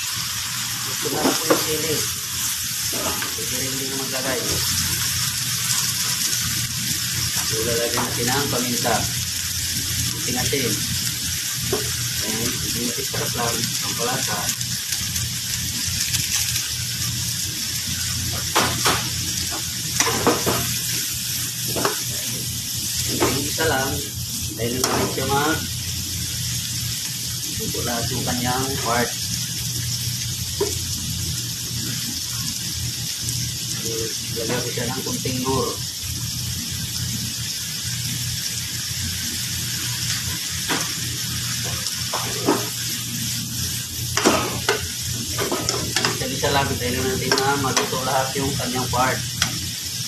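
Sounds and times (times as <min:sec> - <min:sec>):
shrimp sizzling in a pan: 0:00.0 - 0:50.0.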